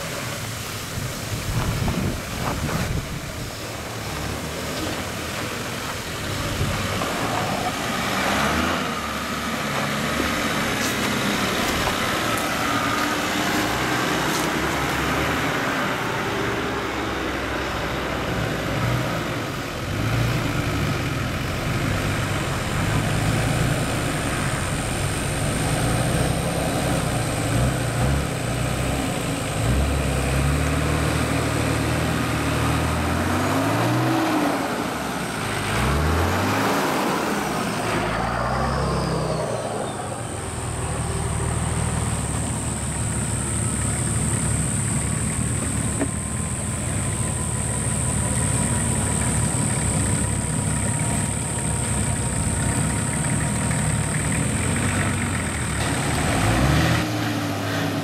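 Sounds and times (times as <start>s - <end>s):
diesel engines running at low revs: 0.0s - 58.0s.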